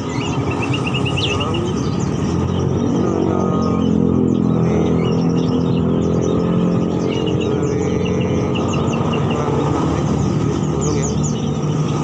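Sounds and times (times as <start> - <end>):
caged birds chirping: 0.0 - 12.0
vehicle engine running: 0.0 - 12.0.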